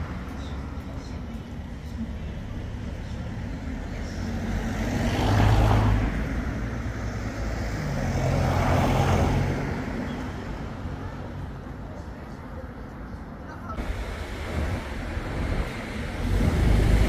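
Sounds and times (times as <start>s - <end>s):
steady traffic noise: 0.0s - 17.0s
vehicles passing by: 0.0s - 17.0s.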